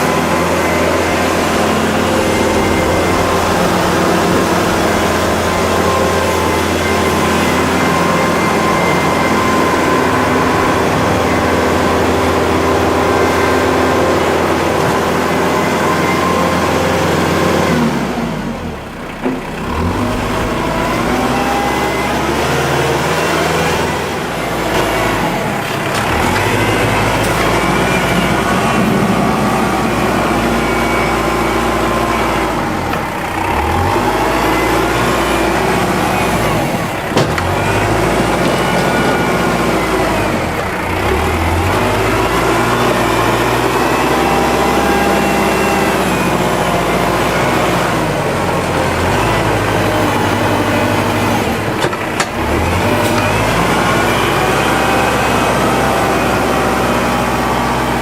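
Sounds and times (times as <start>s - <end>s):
tractor diesel engine running hard: 0.0s - 58.0s.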